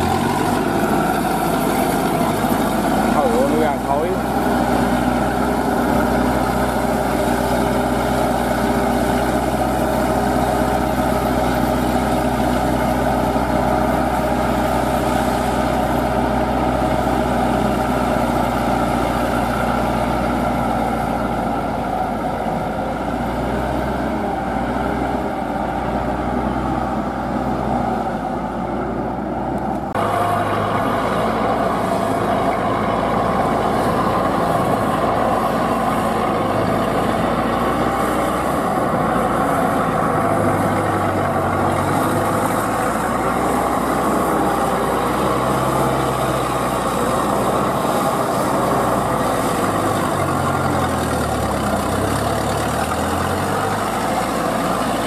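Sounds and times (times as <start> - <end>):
diesel tiller engine running: 0.0 - 55.0.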